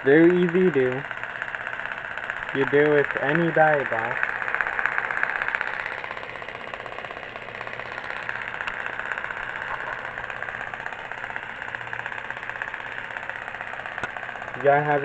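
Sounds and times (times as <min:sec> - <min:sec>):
electric motor whirring and ticking: 0:00.0 - 0:15.0.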